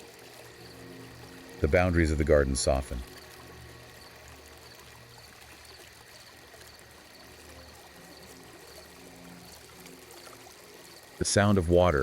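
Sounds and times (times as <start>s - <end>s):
fountain water trickling: 0.0s - 12.0s.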